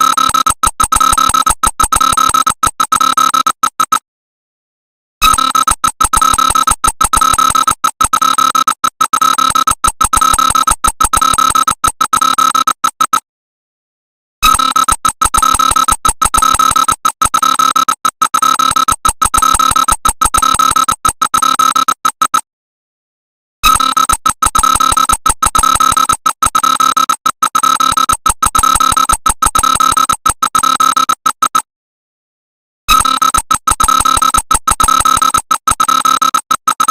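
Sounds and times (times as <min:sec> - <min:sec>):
pulsing electronic alarm tone: 0:00.0 - 0:04.0, 0:05.2 - 0:13.2, 0:14.4 - 0:22.4, 0:23.6 - 0:31.7, 0:32.9 - 0:36.9.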